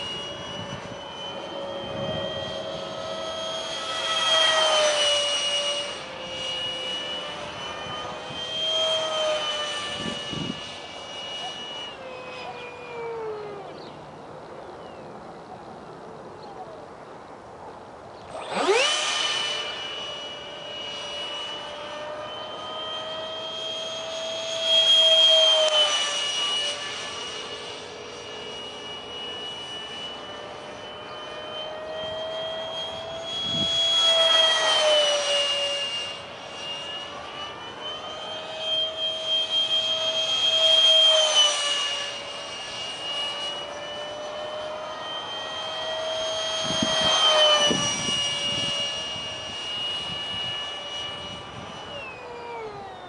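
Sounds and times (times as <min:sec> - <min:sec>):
electric ducted fan whining: 0:00.0 - 0:53.0.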